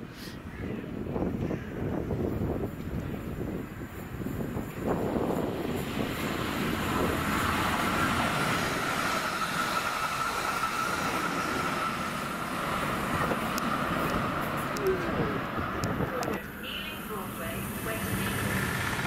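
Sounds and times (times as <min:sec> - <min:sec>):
train wheels rumbling on rails: 0:00.9 - 0:19.0.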